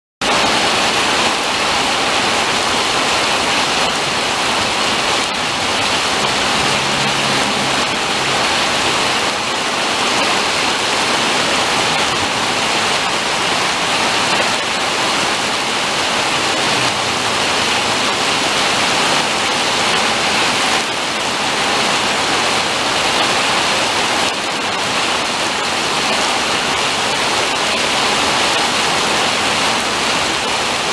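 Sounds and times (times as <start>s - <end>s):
rain pouring on street: 0.2s - 30.9s.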